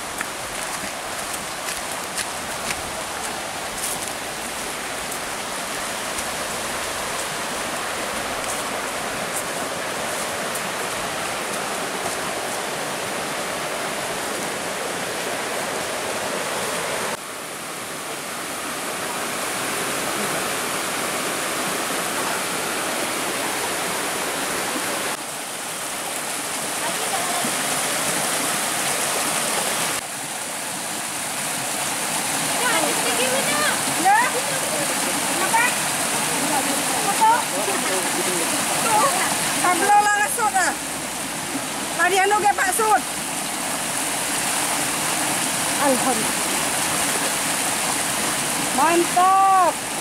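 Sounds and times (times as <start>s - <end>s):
stream rushing over boulders: 0.0s - 50.0s.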